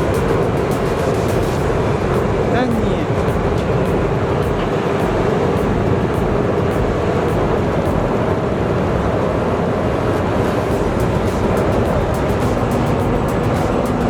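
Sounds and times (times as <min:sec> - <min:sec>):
heavy machinery engine noise: 0:00.0 - 0:14.0.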